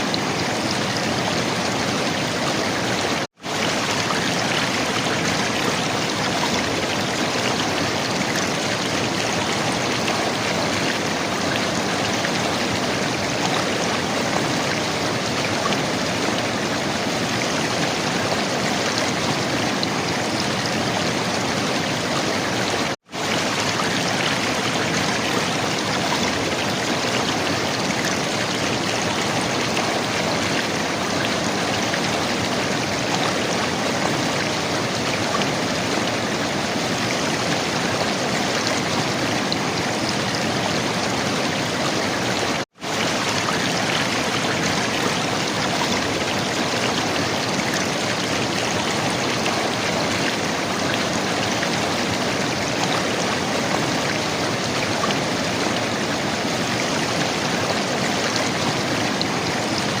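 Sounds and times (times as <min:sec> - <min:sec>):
river water flowing: 0:00.0 - 1:00.0.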